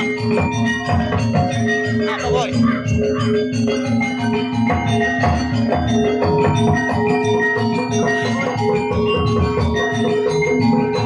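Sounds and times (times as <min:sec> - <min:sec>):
bronze metallophones ringing: 0:00.0 - 0:11.0.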